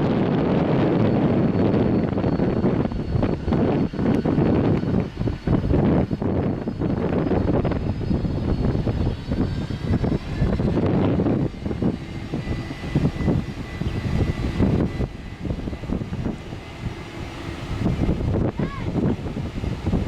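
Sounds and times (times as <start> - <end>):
jet engines whining and rumbling: 0.0 - 20.0.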